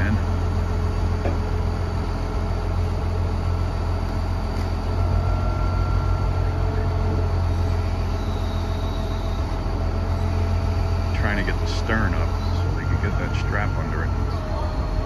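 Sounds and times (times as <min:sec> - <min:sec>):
crane engine droning: 0:00.0 - 0:15.0.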